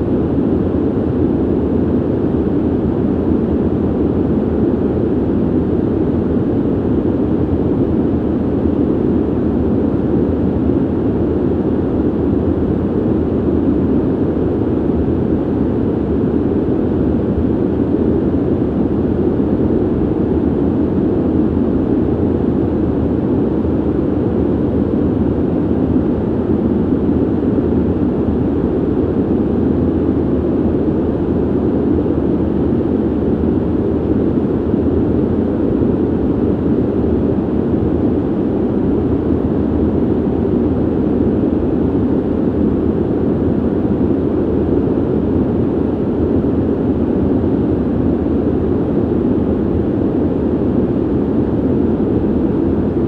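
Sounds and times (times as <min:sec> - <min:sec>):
ventilation air rushing: 0:00.0 - 0:53.0.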